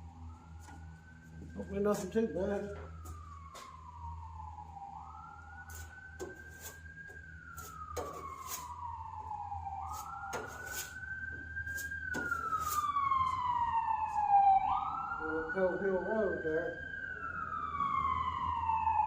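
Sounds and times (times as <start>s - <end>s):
low hum: 0.0s - 15.4s
police siren wailing: 0.0s - 19.0s.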